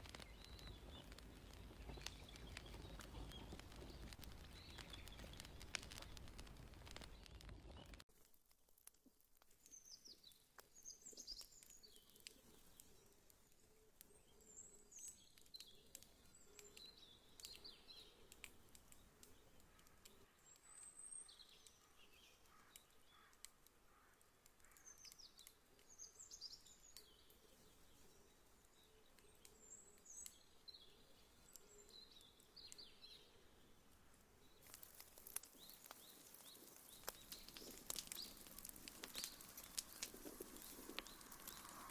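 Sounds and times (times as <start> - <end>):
birds chirping: 0.0 - 8.0, 9.7 - 41.9
faint fire crackling: 0.0 - 41.9.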